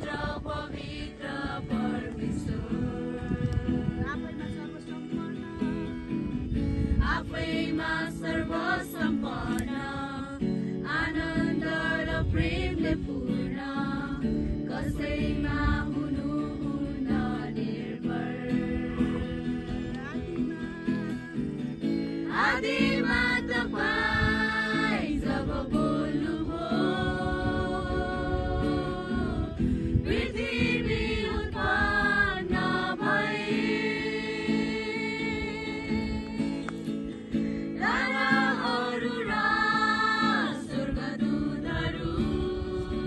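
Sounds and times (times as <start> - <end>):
group of people singing: 0.0 - 4.0, 6.9 - 43.0
strummed acoustic guitar: 0.0 - 43.0.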